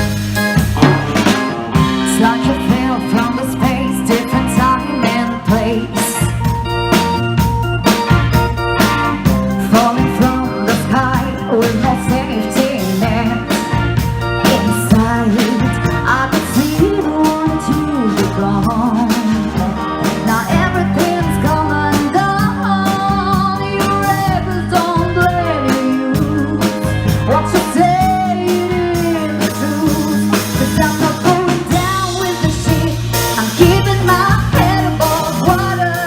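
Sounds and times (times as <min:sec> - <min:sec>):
soul blues band playing: 0:00.0 - 0:36.0.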